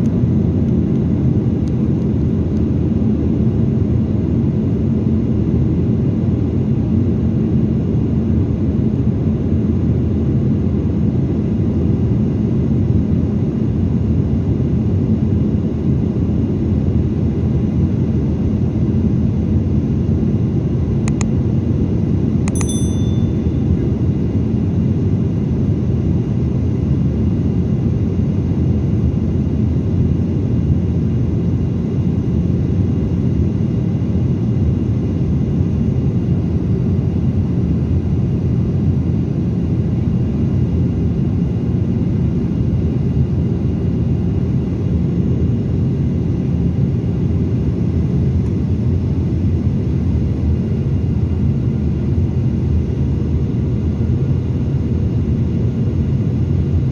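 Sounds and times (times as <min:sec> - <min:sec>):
airplane cabin drone: 0:00.0 - 0:56.9.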